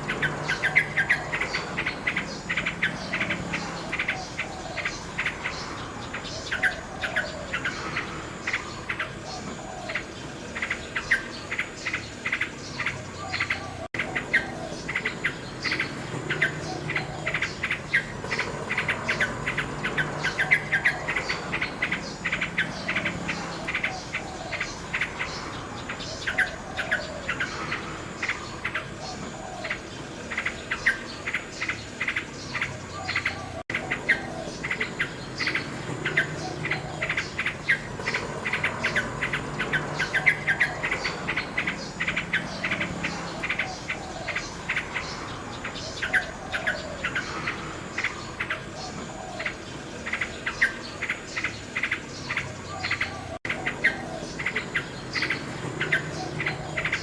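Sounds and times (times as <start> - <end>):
crickets chirping: 0.0 - 57.0
nightingale singing: 0.0 - 57.0.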